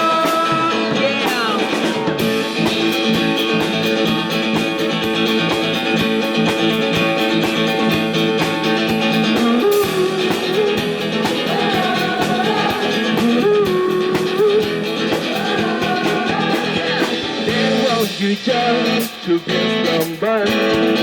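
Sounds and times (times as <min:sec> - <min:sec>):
lead guitar melody: 0:00.0 - 0:18.0
rock band playing live: 0:00.0 - 0:21.0.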